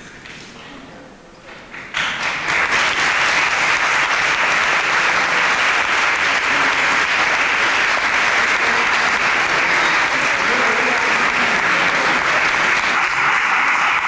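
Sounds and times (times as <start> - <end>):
crowd applauding: 1.7 - 14.0.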